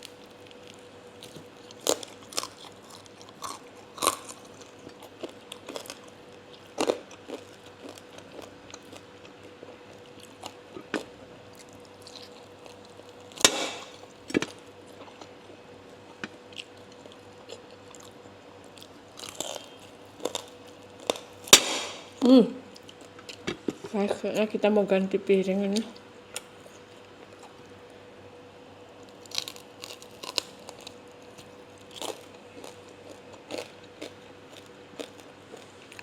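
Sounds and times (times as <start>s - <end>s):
crunchy chewing: 0.0s - 23.4s, 26.0s - 28.0s, 28.9s - 36.0s.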